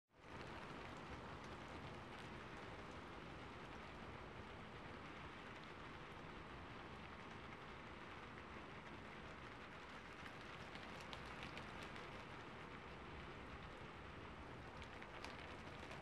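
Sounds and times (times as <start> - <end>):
rain falling on a rooftop: 0.1 - 16.0.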